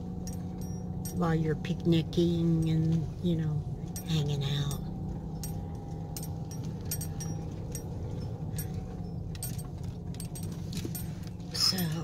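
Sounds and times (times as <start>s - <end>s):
light clicks and jingling rattles: 0.0s - 3.1s, 3.9s - 12.0s
engine and road hum: 0.0s - 12.0s.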